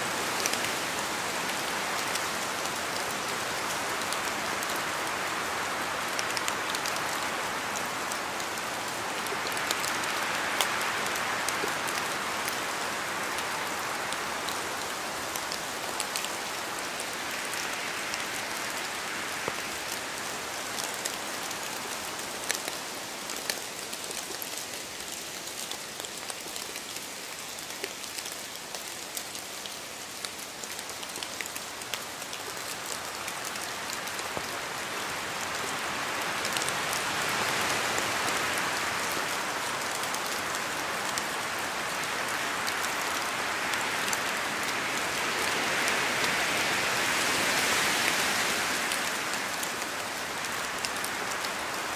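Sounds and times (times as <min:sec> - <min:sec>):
steady rain patter: 0:00.0 - 0:51.9.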